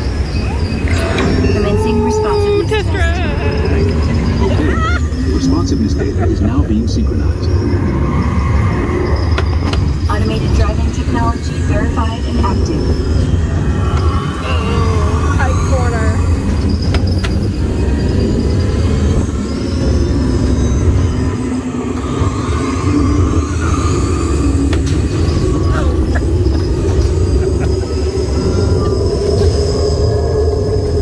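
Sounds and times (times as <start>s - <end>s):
high whining tones: 0.0s - 31.0s
ride vehicle rumbling on track: 0.0s - 31.0s.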